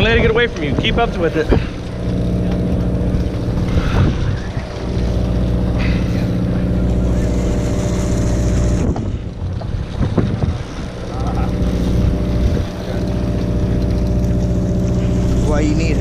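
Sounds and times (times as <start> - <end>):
boat engine droning: 0.0 - 16.0
fish splashing at water surface: 0.4 - 16.0.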